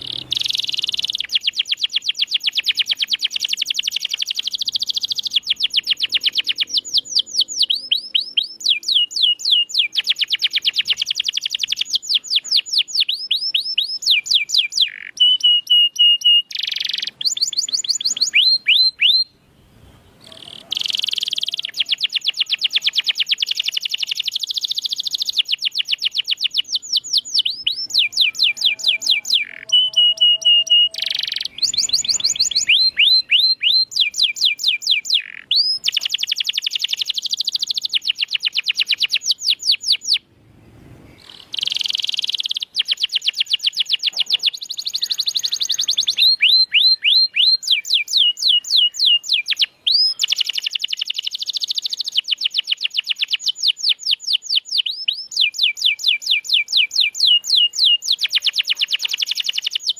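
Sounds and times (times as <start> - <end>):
canary singing trills: 0.0 - 40.3, 41.1 - 59.9.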